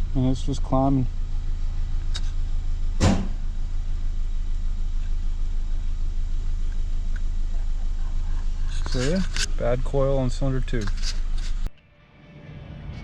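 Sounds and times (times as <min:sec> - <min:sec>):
car engine idling misfiring: 0:00.0 - 0:11.7.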